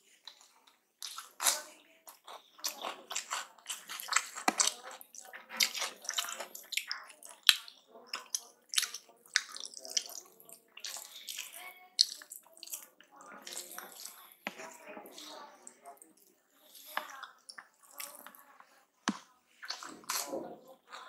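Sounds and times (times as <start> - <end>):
chewing and wet mouth sounds: 0.1 - 21.0.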